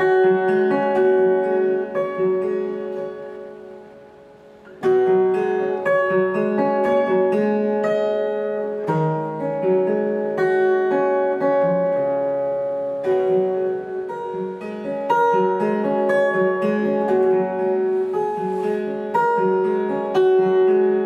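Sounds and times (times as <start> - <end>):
acoustic guitar fingerpicking: 0.0 - 21.0.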